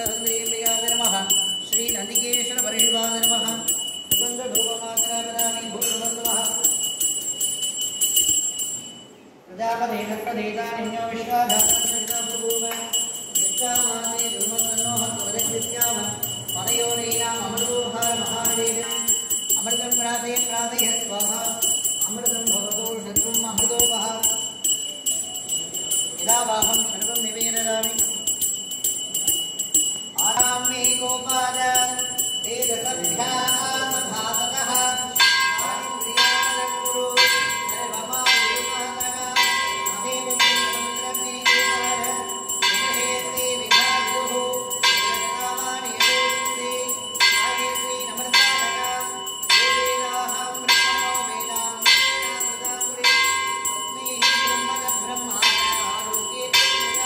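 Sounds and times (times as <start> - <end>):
brass hand bell ringing: 0.0 - 9.4, 11.2 - 57.0.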